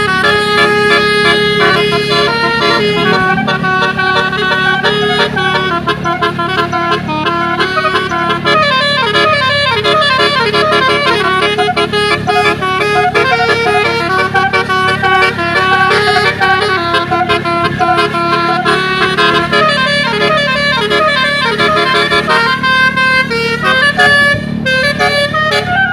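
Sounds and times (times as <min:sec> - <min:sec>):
low engine drone: 0:00.0 - 0:25.9
multi-tone bus horn melody: 0:00.0 - 0:25.9.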